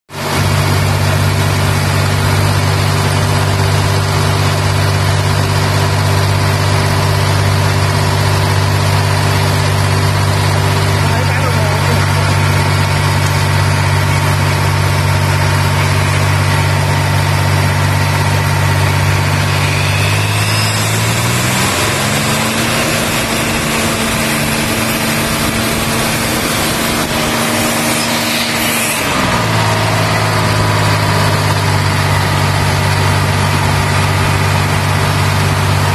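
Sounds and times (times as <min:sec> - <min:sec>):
diesel compressor engine running: 0:00.1 - 0:35.9.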